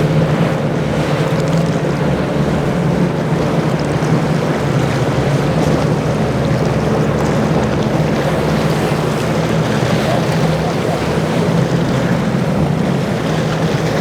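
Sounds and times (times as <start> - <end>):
boat engines running: 0.0 - 14.0
waves washing: 0.0 - 14.0.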